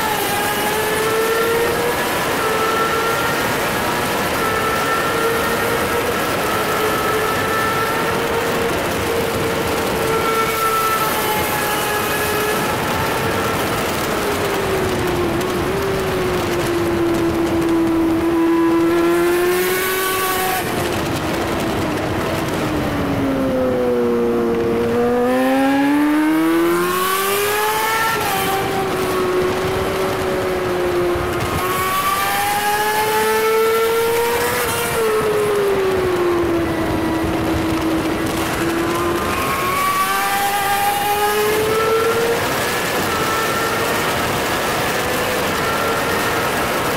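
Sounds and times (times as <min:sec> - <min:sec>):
sportbike engine at high revs: 0:00.0 - 0:46.9.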